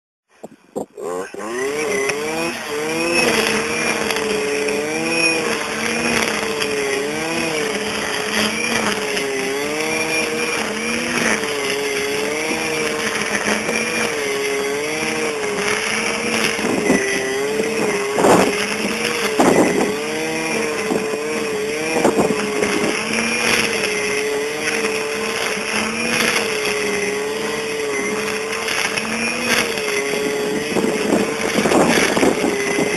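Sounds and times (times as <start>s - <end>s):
brush cutter running at full throttle: 0.3s - 32.9s.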